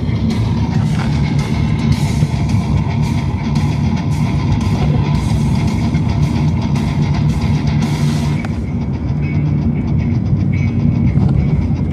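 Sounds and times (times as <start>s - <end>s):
drums: 0.0s - 11.9s
electric guitar: 0.0s - 11.9s.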